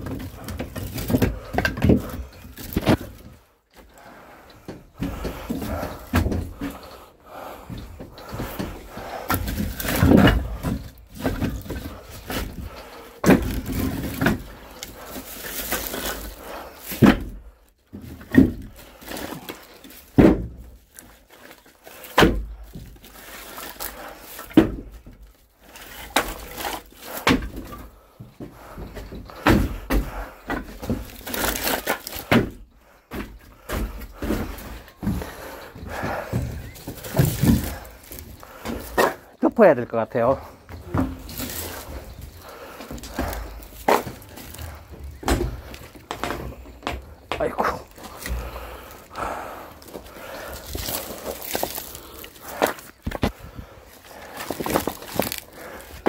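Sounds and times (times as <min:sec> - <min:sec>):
wooden thunks and knocks: 0:00.0 - 0:03.8, 0:04.6 - 0:39.4, 0:40.4 - 0:53.8
rustling and scraping: 0:00.0 - 0:56.0.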